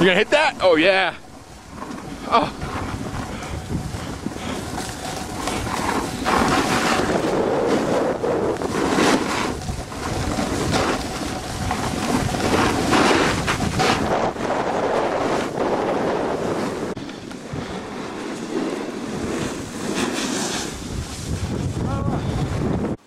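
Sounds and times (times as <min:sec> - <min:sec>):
snowboard edges scraping snow: 0:00.0 - 0:23.0
wind rushing over microphone: 0:00.0 - 0:23.0.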